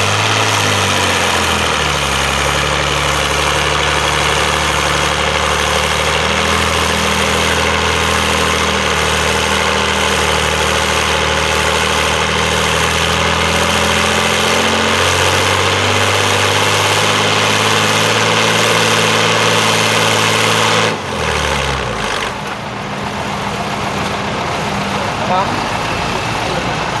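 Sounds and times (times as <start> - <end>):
tractor engine under load: 0.0 - 27.0.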